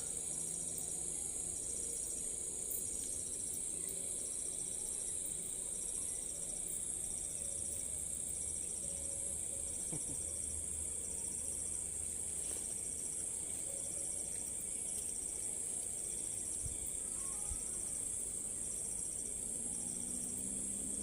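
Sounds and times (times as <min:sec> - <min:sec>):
insect trilled chirps: 0:00.0 - 0:21.0
insects droning: 0:00.0 - 0:21.0.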